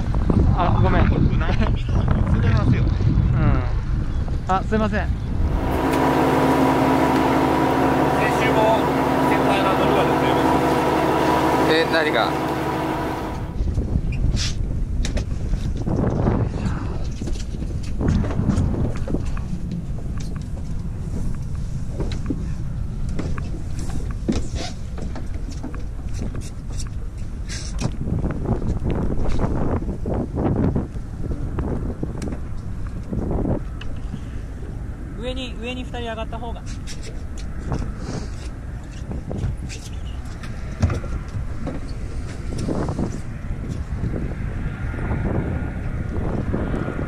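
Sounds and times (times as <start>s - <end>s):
wind buffeting microphone: 0.0s - 47.0s
choppy water around boat: 4.5s - 47.0s.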